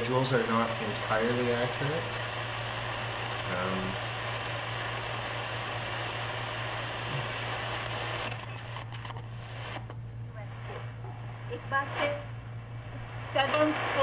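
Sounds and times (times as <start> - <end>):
low hum: 0.0 - 14.0
radio static hiss: 0.0 - 14.0.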